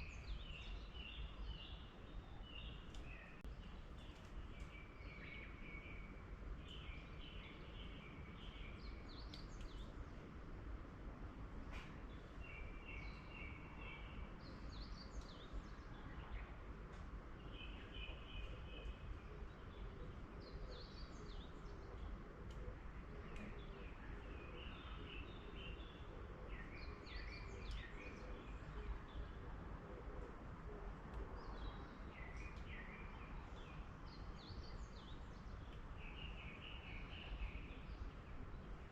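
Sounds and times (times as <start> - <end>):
faint background hiss and rumble: 0.0 - 38.9
small birds chirping: 0.0 - 38.9.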